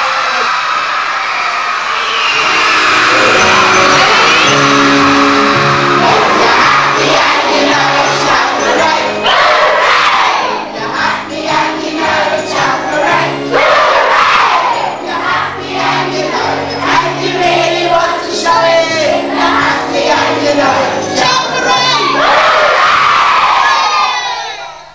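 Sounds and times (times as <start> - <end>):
backing music: 1.7 - 24.9
children shouting and singing: 3.1 - 24.9.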